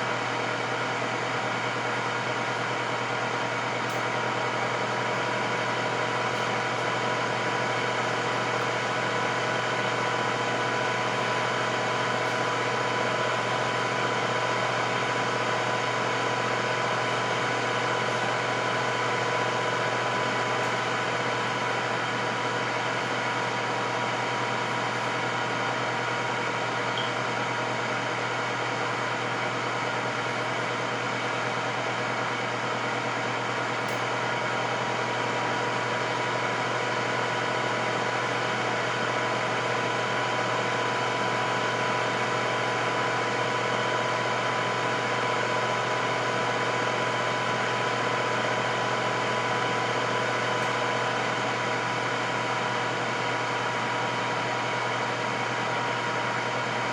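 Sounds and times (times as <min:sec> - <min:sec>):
air fryer fan whirring: 0:00.0 - 0:56.9.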